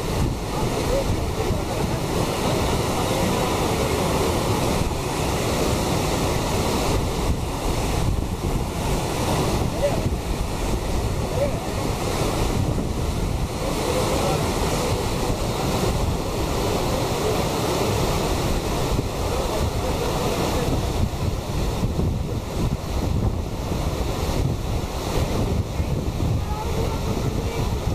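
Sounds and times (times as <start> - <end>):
whitewater rapids rushing: 0.0 - 27.9
wind buffeting microphone: 0.0 - 27.9.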